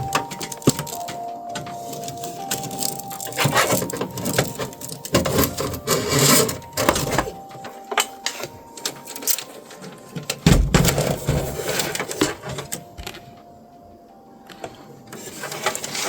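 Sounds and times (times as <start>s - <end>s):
clicks and rattles of computer parts: 0.0s - 13.2s.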